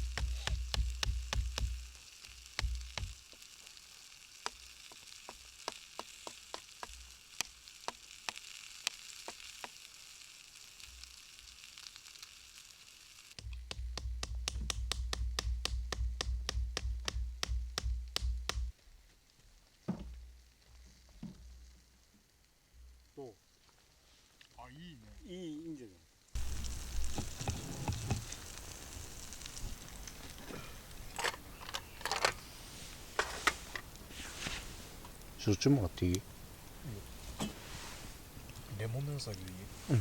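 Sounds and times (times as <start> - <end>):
food sizzling with pops: 0.0 - 24.6, 26.1 - 40.0.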